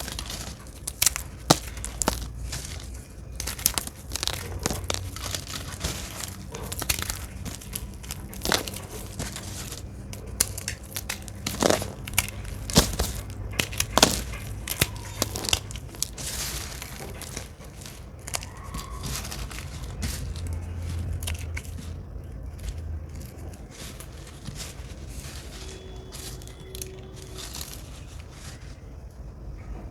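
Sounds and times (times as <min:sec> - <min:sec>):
dry soap crackling and crunching: 0:00.0 - 0:29.9.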